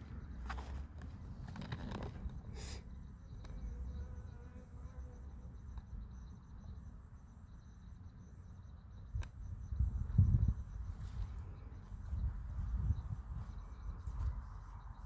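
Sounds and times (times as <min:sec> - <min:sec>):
insects buzzing and chirping: 0:00.0 - 0:15.0.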